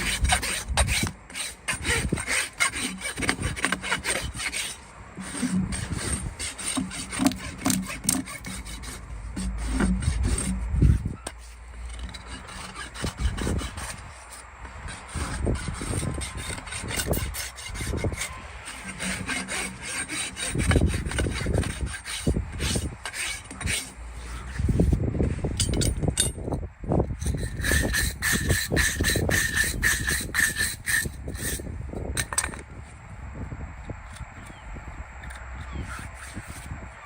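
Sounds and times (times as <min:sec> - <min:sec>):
rasp filing hoof: 0:00.0 - 0:32.6, 0:35.2 - 0:36.8.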